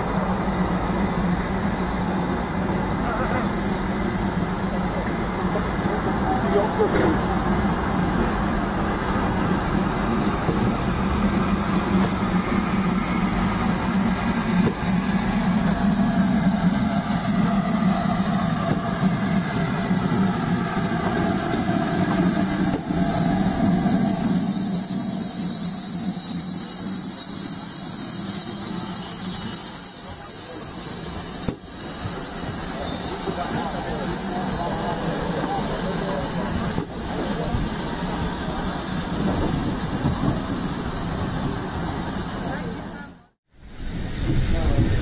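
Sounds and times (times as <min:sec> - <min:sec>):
steam hissing: 0:00.0 - 0:45.0
train wheels on rails: 0:00.0 - 0:45.0.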